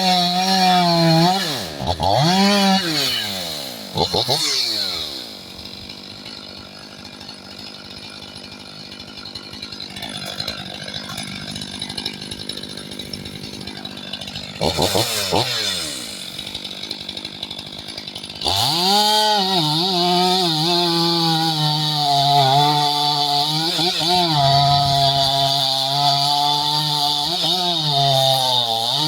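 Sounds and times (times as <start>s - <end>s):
chainsaw idling and revving: 0.0s - 29.0s.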